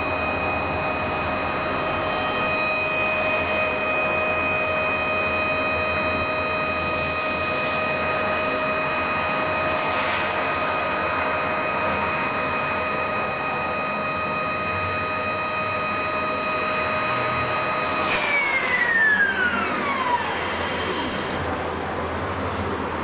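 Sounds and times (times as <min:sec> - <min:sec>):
stepper motor whine: 0:00.0 - 0:21.8.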